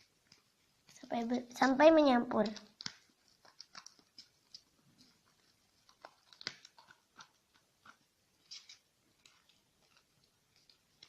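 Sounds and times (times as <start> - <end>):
slime stirred in a bowl: 0.0 - 11.0.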